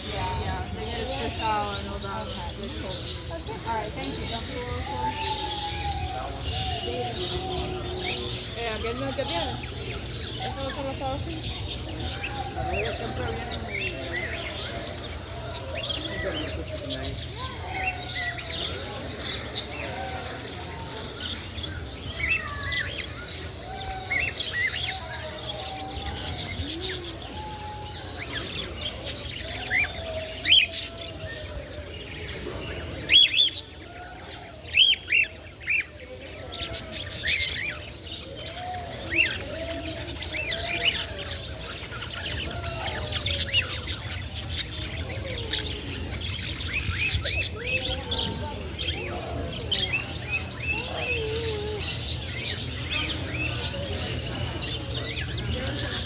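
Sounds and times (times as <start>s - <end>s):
caged birds chirping: 0.0s - 56.0s.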